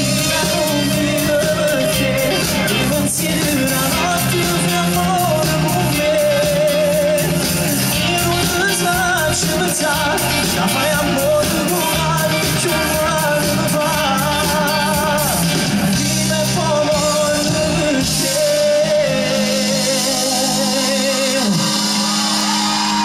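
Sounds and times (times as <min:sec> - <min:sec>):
man singing with vibrato: 0:00.0 - 0:23.0
pop-rock band playing: 0:00.0 - 0:23.0.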